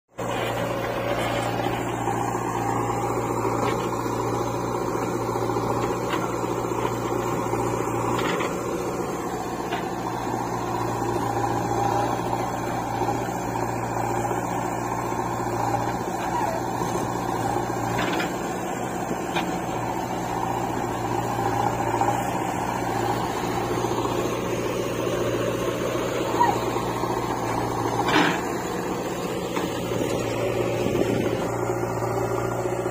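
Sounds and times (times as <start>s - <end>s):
diesel engines droning: 0.1s - 32.9s.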